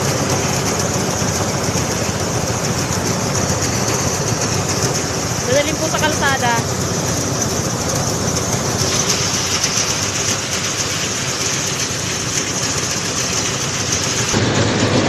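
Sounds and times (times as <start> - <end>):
harvester engine droning: 0.0 - 15.0.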